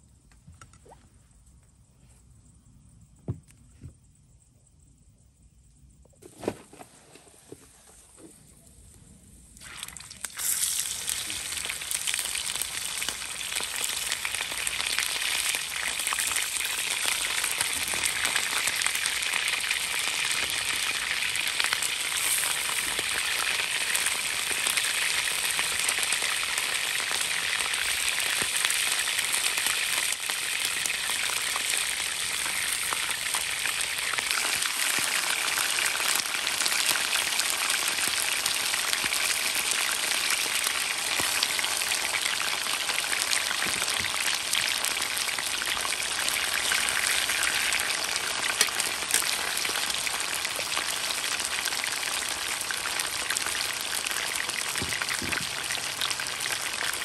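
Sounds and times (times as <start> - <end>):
food sizzling in hot oil: 9.6 - 57.0
oil crackling spatter: 9.6 - 57.0.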